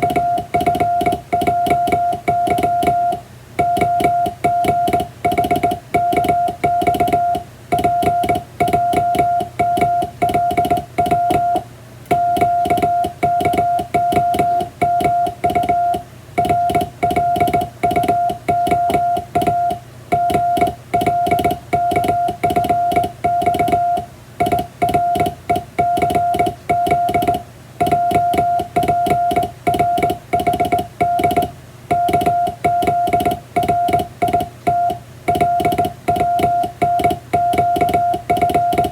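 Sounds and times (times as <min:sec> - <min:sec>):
morse code beeps: 0:00.0 - 0:38.9
telegraph key clicks: 0:00.0 - 0:38.9.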